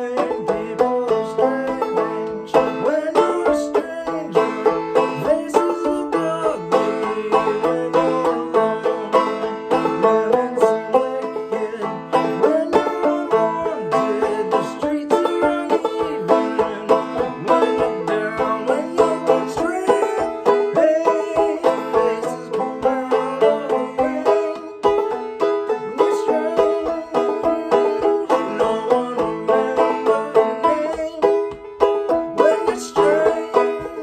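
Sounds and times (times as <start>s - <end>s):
banjo plucked notes: 0.0s - 34.0s.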